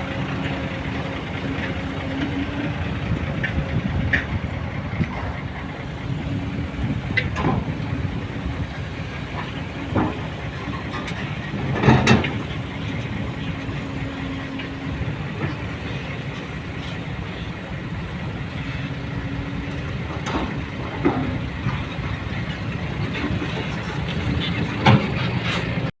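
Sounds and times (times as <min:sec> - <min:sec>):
heavy vehicle engine rumbling: 0:00.0 - 0:26.0.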